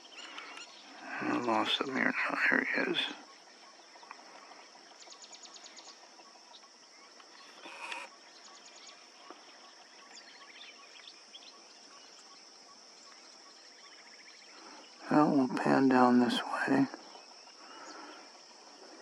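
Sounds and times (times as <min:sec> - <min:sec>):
birds calling in trills: 0:00.0 - 0:19.0
high insect drone: 0:00.0 - 0:19.0.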